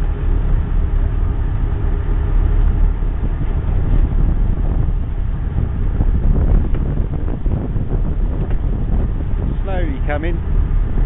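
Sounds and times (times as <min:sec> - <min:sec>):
boat engine drone: 0:00.0 - 0:11.0
wind buffeting microphone: 0:00.0 - 0:11.0.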